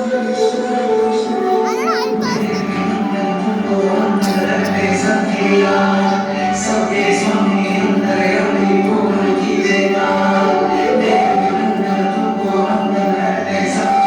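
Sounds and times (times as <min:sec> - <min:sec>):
group singing in unison: 0:02.6 - 0:14.0.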